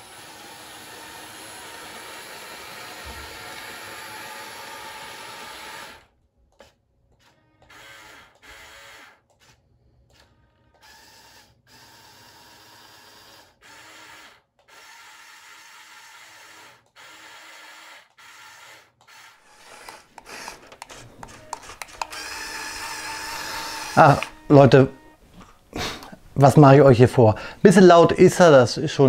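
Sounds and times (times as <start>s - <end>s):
electric motors whirring: 0.0s - 25.2s.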